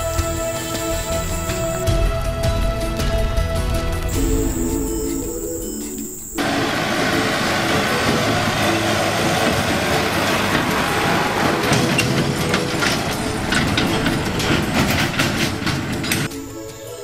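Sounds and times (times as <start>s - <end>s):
tractor engine running: 0.0s - 16.3s
trailer rattling and clanking: 0.0s - 16.5s.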